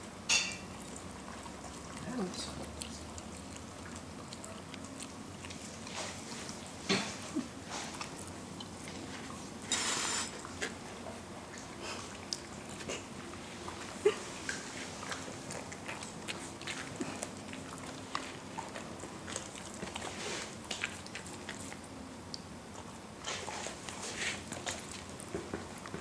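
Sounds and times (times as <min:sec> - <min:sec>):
dogs licking and crunching: 0:00.0 - 0:26.0.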